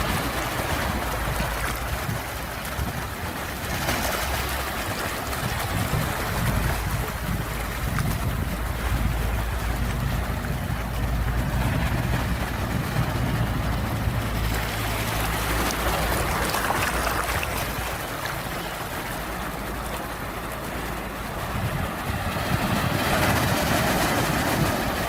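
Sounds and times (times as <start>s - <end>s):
sea waves roaring: 0.0s - 25.0s.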